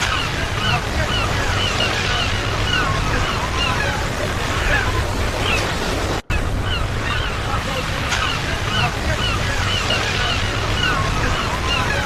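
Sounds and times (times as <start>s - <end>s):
birds chirping: 0.0s - 12.0s
ocean surf washing: 0.0s - 12.0s.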